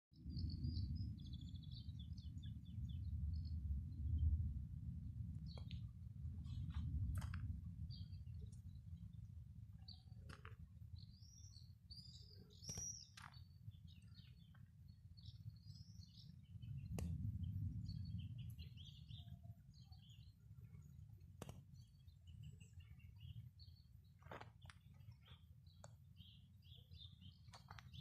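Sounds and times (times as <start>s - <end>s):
small birds chirping: 0.2s - 3.6s, 5.4s - 28.0s
low rumble: 0.2s - 12.3s, 13.6s - 24.1s.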